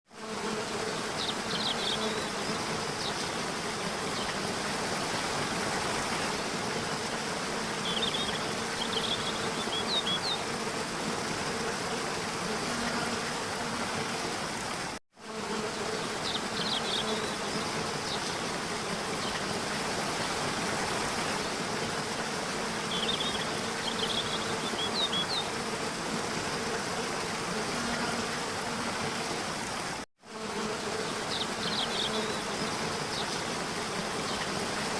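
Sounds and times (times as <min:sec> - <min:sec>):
buzzing of flying insects: 0:00.1 - 0:34.9.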